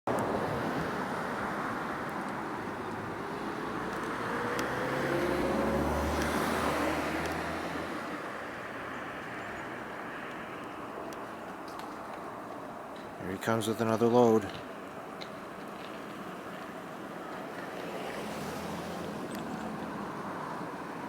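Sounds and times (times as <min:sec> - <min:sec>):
passing vehicle engine rumble: 0:00.1 - 0:21.0
road traffic noise: 0:00.1 - 0:21.0.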